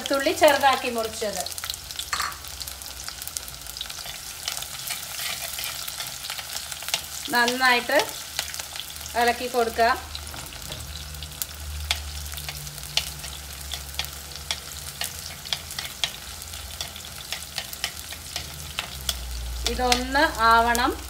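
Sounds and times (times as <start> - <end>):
shallots and garlic frying: 0.0 - 21.0.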